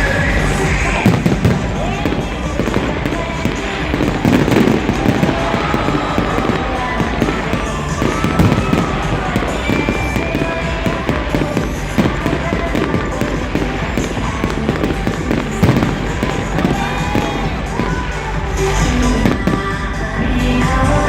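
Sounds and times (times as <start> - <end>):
fireworks pops and bangs: 0.5 - 19.8.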